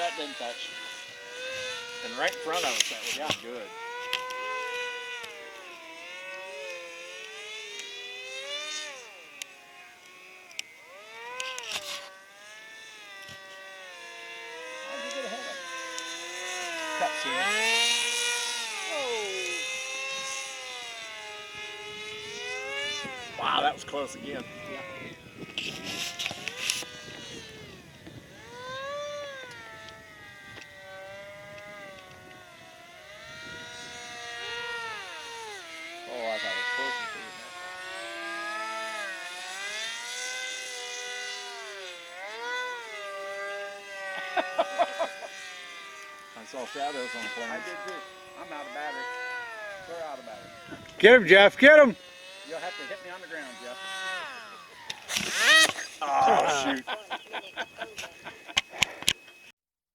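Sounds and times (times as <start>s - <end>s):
model airplane motors whining: 0.0s - 59.6s.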